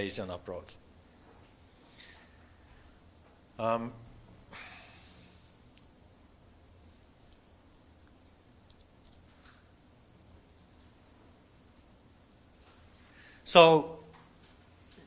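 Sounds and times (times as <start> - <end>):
soft rush of noise: 0.0 - 13.8.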